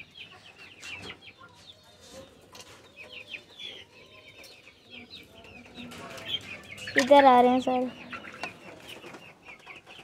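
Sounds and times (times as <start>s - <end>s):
chickens clucking and chirping: 0.0s - 10.0s.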